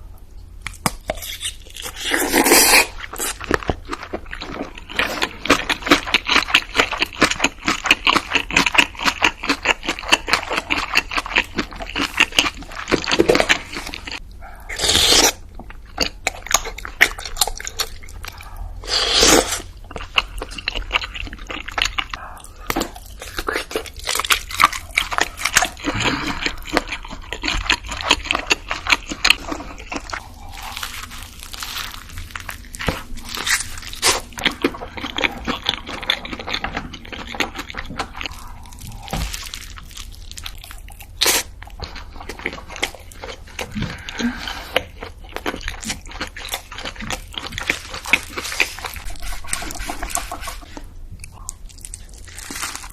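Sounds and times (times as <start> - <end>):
crunching and chewing food: 0.6 - 52.9.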